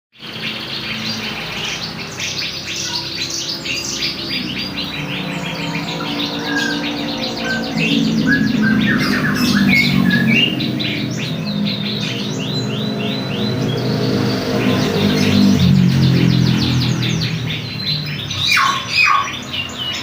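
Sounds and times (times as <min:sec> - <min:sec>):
canary singing trills: 0:00.2 - 0:20.0.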